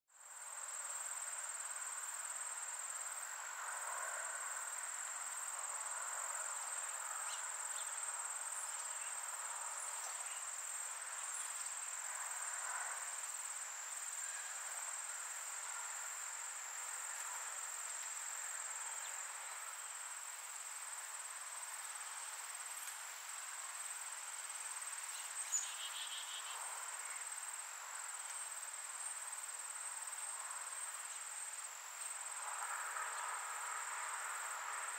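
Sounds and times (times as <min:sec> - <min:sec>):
faint outdoor hiss: 0:00.1 - 0:34.9
high-pitched insect trill: 0:04.0 - 0:34.9.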